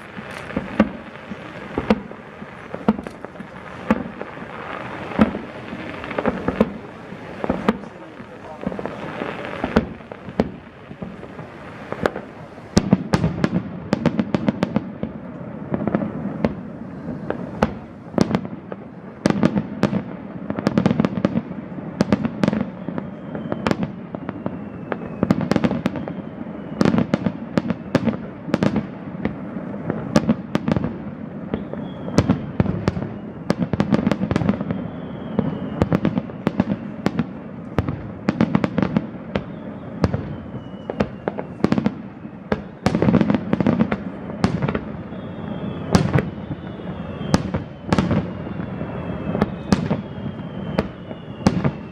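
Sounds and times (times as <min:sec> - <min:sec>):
firework bangs and crackles: 0:00.0 - 0:51.9
firework whistles: 0:00.0 - 0:51.9.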